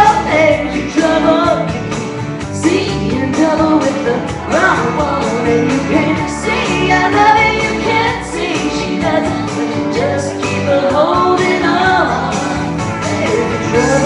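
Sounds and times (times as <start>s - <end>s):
band backing track: 0.0s - 14.0s
woman singing a pop song: 0.0s - 14.0s.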